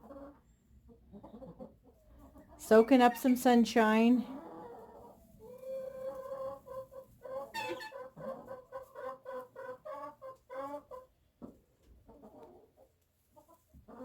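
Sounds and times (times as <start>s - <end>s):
chickens clucking: 0.0s - 3.4s, 4.3s - 14.0s.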